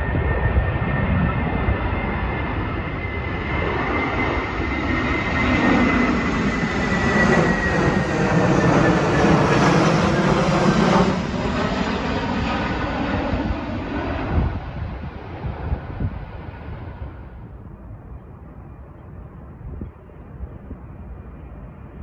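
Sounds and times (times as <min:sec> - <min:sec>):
jet airliner passing overhead: 0:00.0 - 0:22.0
wind buffeting microphone: 0:00.0 - 0:22.0.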